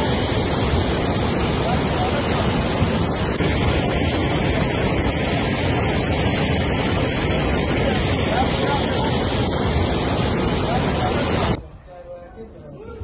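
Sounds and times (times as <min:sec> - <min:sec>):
loud rushing floodwater: 0:00.0 - 0:11.6.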